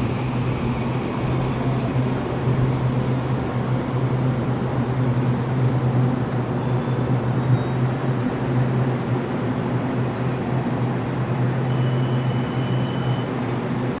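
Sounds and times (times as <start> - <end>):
train rumbling into station: 0.0 - 14.0.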